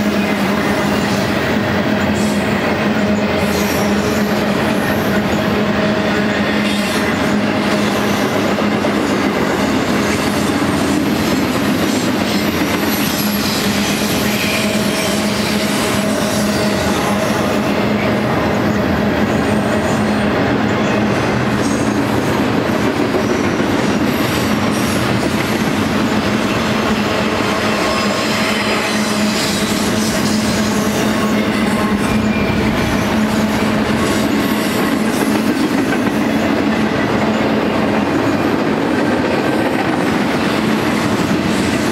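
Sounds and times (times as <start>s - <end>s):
steel wheels rumbling on rail: 0.0s - 41.9s.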